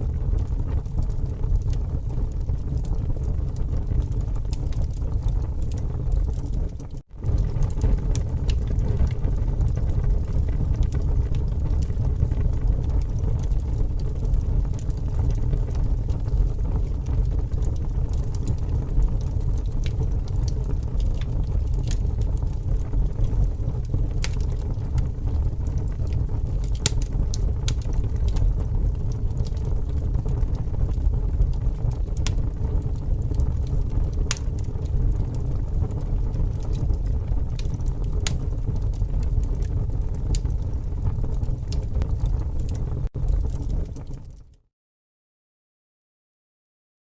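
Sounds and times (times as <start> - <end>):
bonfire crackling and popping: 0.0 - 44.6
low fire rumble: 0.0 - 44.6.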